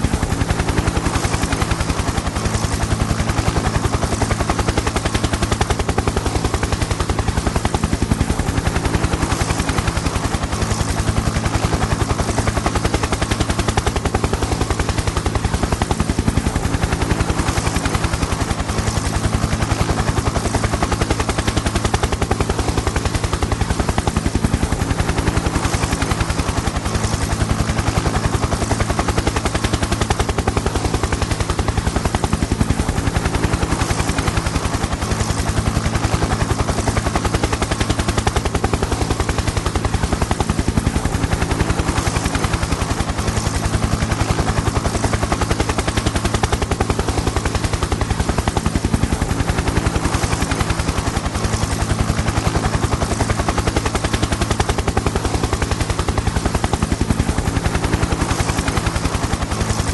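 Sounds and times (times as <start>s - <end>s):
helicopter engine hum: 0.0s - 59.9s
helicopter rotor chop: 0.0s - 59.9s.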